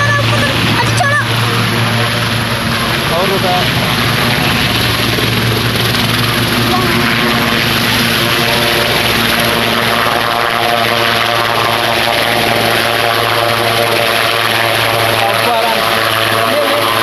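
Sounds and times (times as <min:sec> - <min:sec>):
helicopter rotor and turbine engines: 0:00.0 - 0:17.0
rush of rotor wash: 0:00.0 - 0:17.0.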